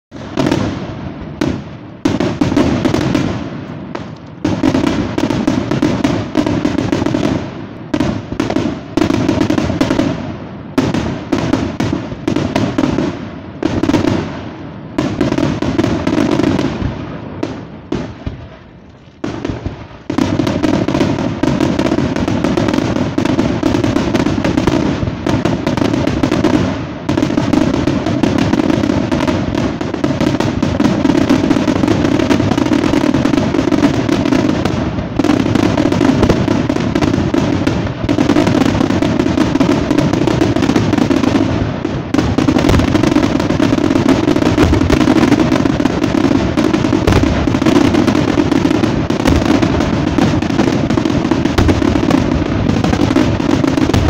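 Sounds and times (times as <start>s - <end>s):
fireworks booming and crackling: 0.1s - 54.0s.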